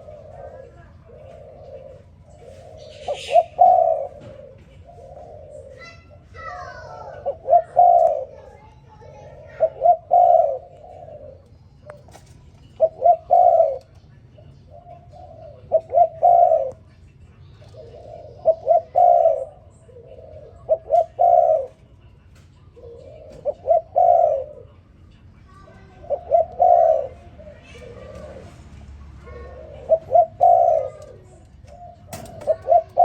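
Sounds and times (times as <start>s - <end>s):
dove cooing: 0.0s - 22.1s, 22.7s - 24.9s, 25.6s - 33.0s.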